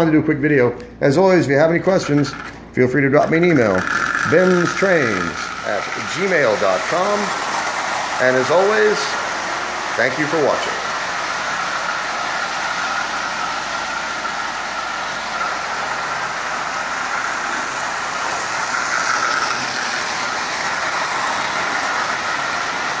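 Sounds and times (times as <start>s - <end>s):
toy electric train whirring: 3.4s - 23.0s.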